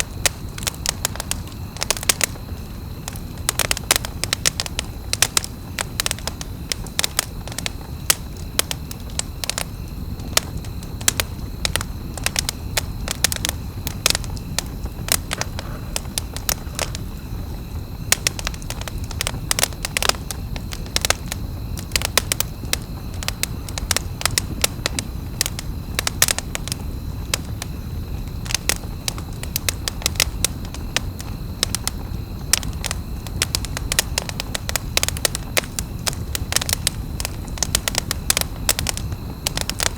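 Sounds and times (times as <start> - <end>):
campfire crackling and popping: 0.0 - 39.9
low rush of burning: 0.0 - 39.9.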